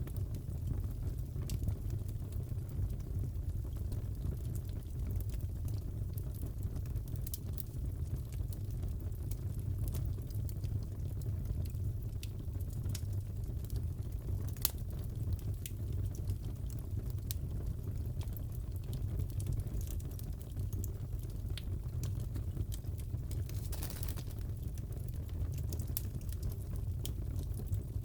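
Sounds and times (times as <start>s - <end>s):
fireplace crackling and popping: 0.0s - 28.0s
low rumble of burning wood: 0.0s - 28.0s.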